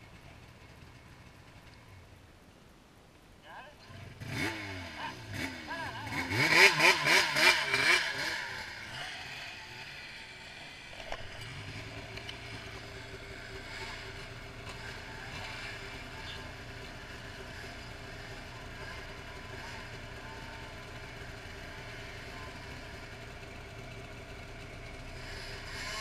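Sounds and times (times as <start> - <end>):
snowmobile engine revving: 4.0 - 26.0.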